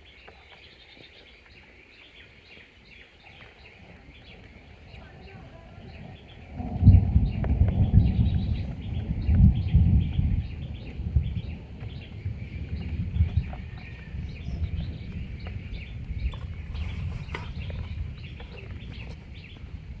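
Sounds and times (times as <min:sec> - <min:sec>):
low rumble: 0:03.9 - 0:20.0.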